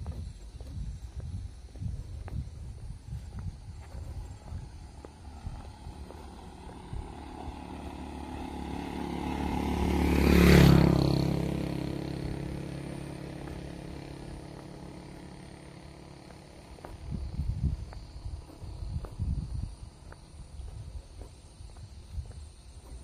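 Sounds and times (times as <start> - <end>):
motorcycle passing by: 0.0 - 23.0.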